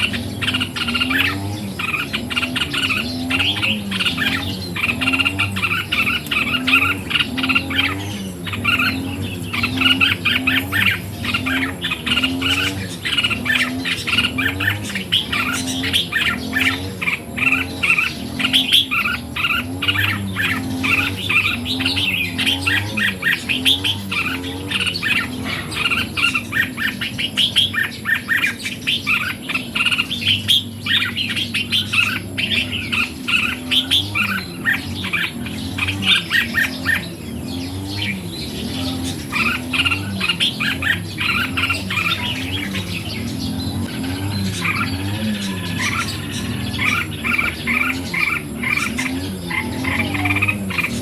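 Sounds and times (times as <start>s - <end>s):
bulbuls singing and calling: 0.0s - 51.0s.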